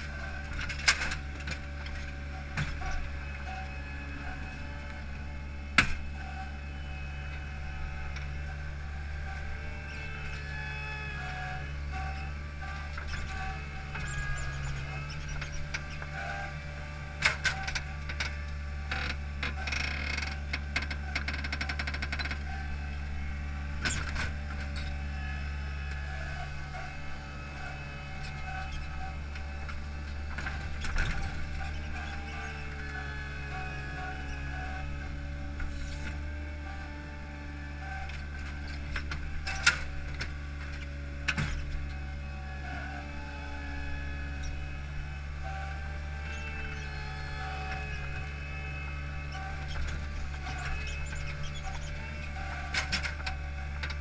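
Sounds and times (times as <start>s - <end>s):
hydraulics working: 0.0s - 54.0s
paving machine engine running: 0.0s - 54.0s.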